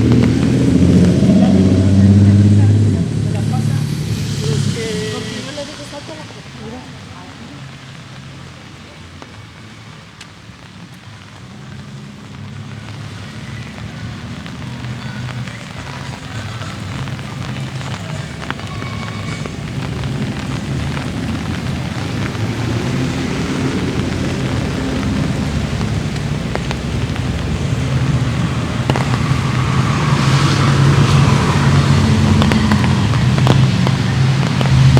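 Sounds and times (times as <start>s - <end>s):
light rain falling: 0.0s - 34.9s
road traffic rumble: 0.0s - 34.9s.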